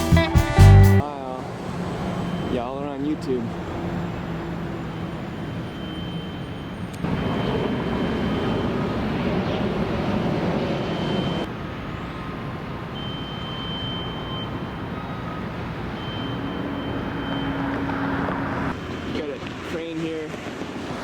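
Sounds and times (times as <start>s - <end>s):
road traffic: 0.0s - 21.0s
construction machinery: 1.1s - 21.0s.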